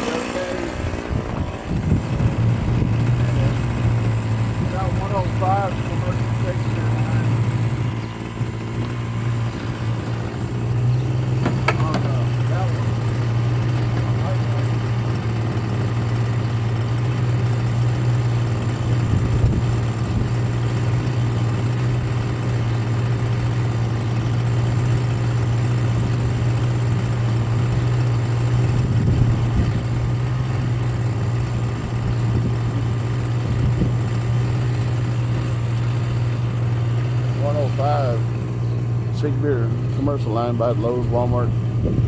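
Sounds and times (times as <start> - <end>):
small gasoline engine running: 0.0 - 42.0.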